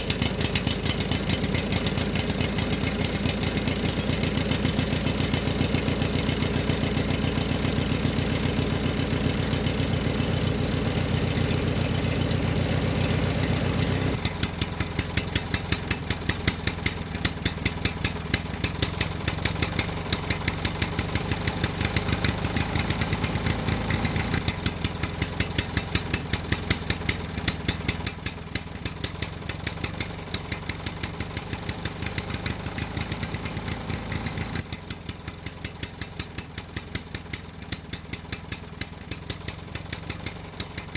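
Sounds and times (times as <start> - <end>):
small tractor engine running: 0.0 - 40.9.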